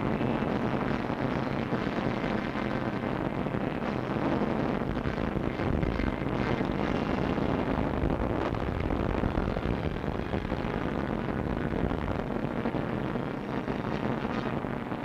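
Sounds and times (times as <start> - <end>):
aircraft engines roaring: 0.0 - 15.0.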